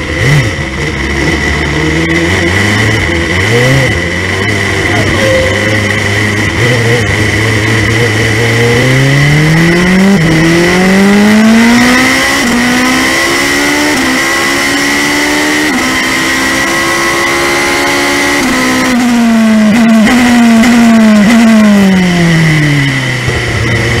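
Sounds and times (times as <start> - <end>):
engine throttle blips: 0.0 - 24.0
racing car engine at full throttle: 0.0 - 24.0.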